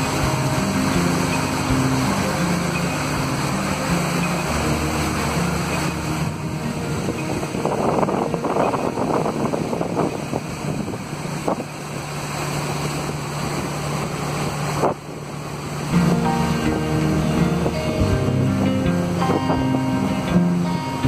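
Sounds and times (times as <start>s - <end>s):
boat engine humming: 0.0s - 21.0s
water rushing past hull: 0.0s - 21.0s
wind buffeting microphone: 0.0s - 21.0s.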